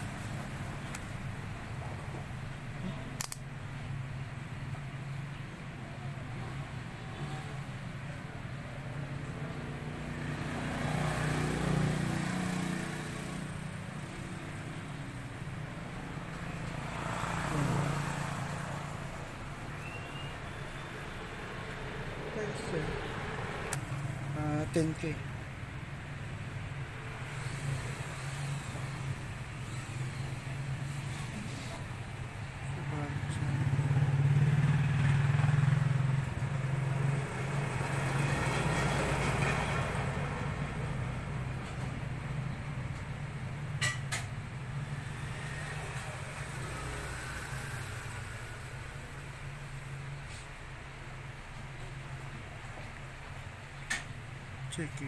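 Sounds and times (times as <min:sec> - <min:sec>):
vehicle engine humming: 0:06.4 - 0:54.9.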